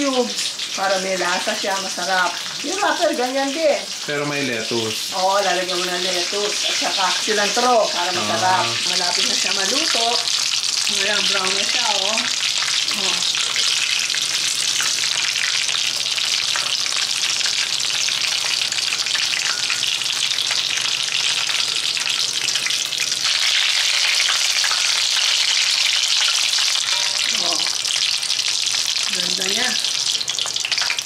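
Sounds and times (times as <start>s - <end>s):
spring rolls frying in oil: 0.0s - 31.0s.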